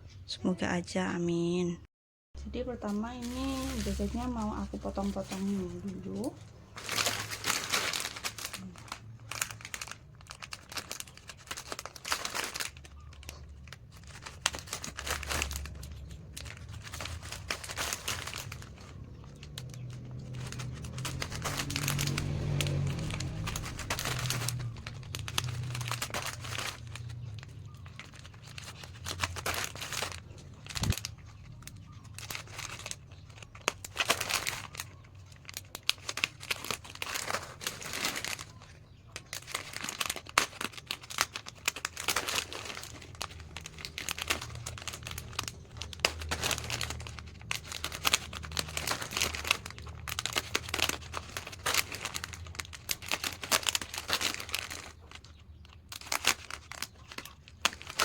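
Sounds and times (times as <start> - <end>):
plastic snack packets crinkling: 2.5 - 58.0.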